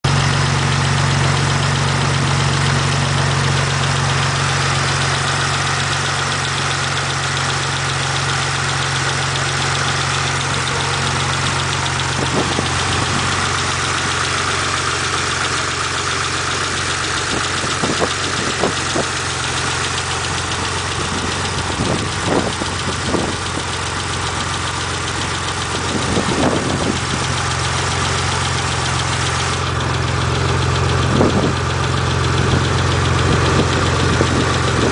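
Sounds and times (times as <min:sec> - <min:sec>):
car engine idling with ticking: 0:00.0 - 0:34.9
sharp engine clicks: 0:00.1 - 0:34.9.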